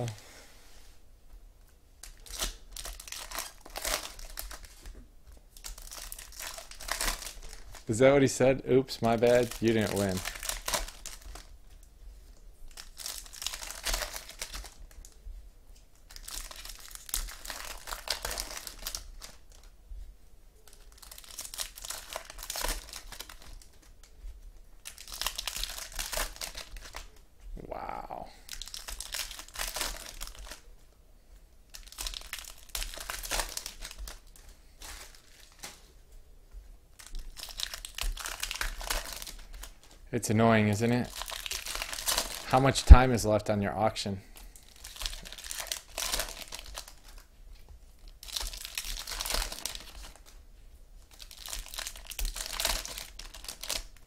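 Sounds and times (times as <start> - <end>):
foil wrappers crinkling and tearing: 2.0 - 15.2, 15.9 - 19.8, 20.7 - 24.2, 24.8 - 27.2, 27.8 - 30.8, 31.7 - 36.0, 36.9 - 43.5, 44.2 - 50.4, 51.0 - 54.0.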